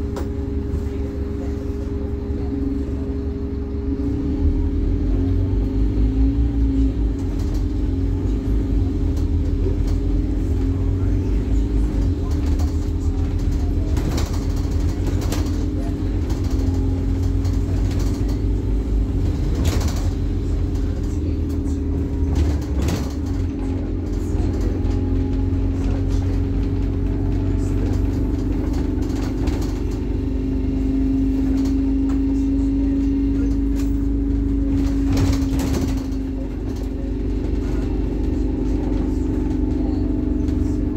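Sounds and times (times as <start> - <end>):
bus body rattles: 0.0 - 40.9
bus diesel engine drone: 0.0 - 40.9.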